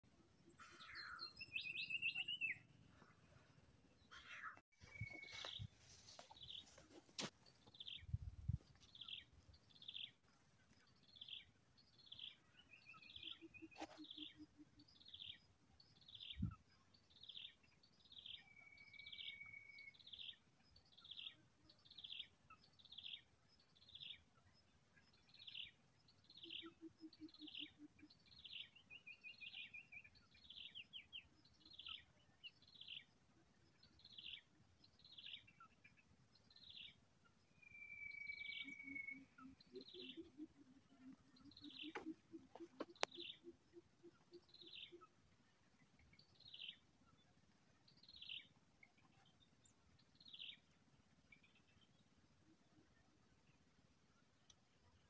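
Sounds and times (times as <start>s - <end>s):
bird chirping: 0.3s - 53.6s.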